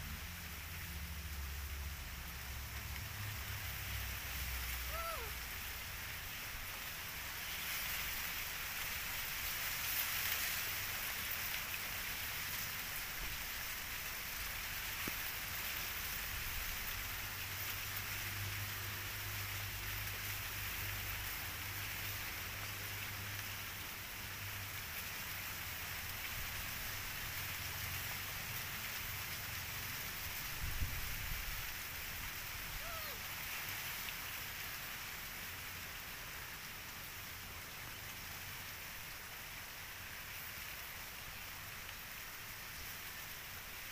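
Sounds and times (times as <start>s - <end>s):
steady outdoor hiss: 0.0s - 43.9s.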